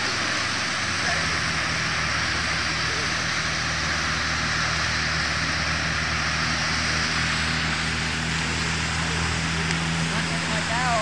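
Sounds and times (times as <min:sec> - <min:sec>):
fountain water spray hissing: 0:00.0 - 0:11.0.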